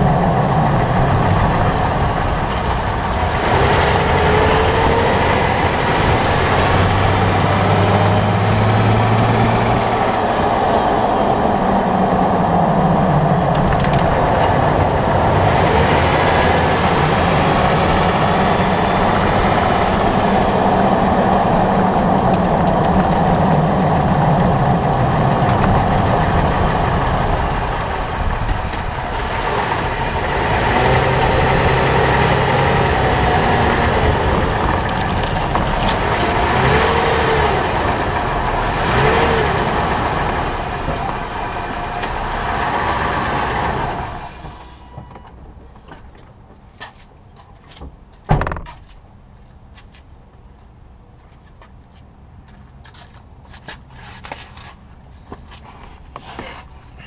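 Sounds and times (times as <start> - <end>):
engine hum: 0.0 - 57.0
tyre and road noise: 0.0 - 57.0.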